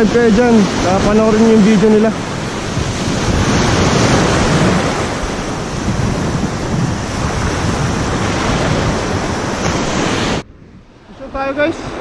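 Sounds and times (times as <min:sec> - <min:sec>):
small sea waves breaking: 0:00.0 - 0:12.0.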